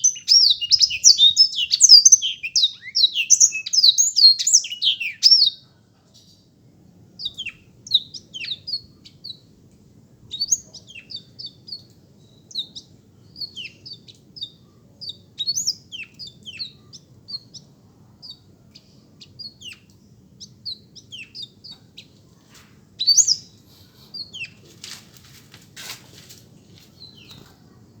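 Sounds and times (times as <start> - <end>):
canary singing: 0.0 - 5.6, 7.2 - 9.5, 10.3 - 22.4, 23.0 - 24.6, 27.0 - 28.0
faint low hum: 0.0 - 28.0.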